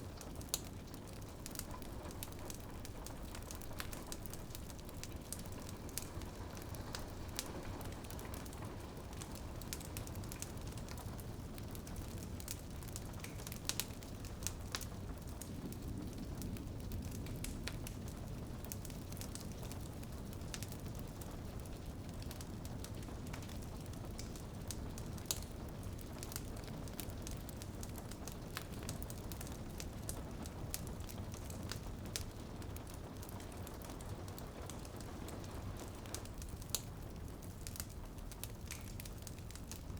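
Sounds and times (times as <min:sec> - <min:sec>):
low rumble of flames: 0:00.0 - 0:39.9
rain on a window: 0:00.0 - 0:39.9
wood fire crackling: 0:00.0 - 0:39.9.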